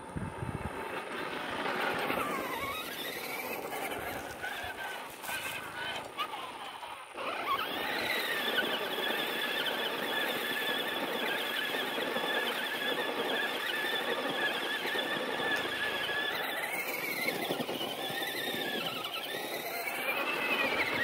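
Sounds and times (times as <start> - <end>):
electric toy car motor whining: 0.0 - 21.0.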